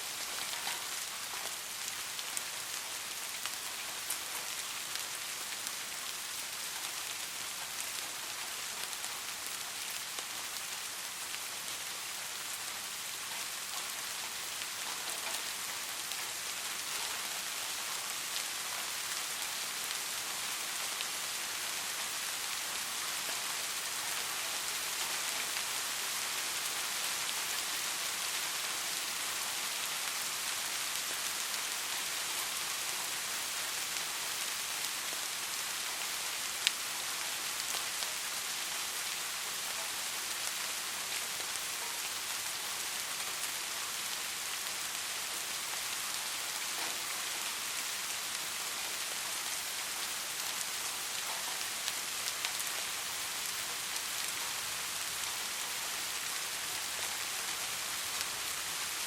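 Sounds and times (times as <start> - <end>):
soft rain: 0.0 - 59.0.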